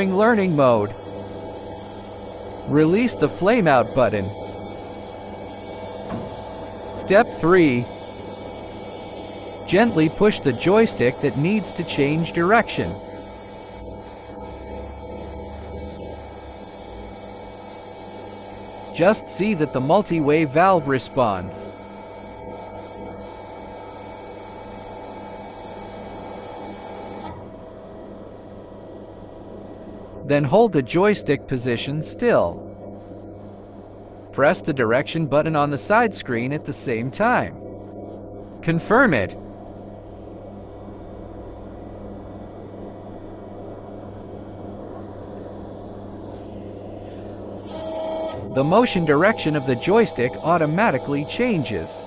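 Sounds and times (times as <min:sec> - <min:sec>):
hydraulic unit humming: 0:00.0 - 0:52.0.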